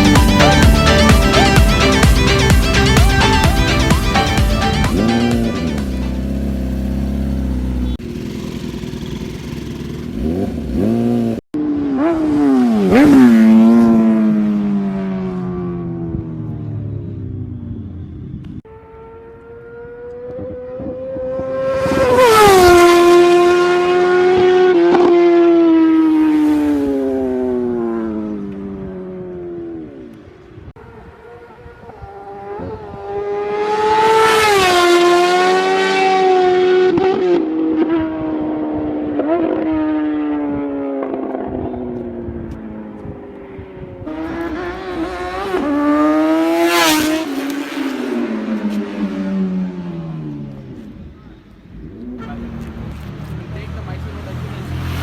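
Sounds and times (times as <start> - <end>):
sport motorcycles passing by: 0.0 - 55.0.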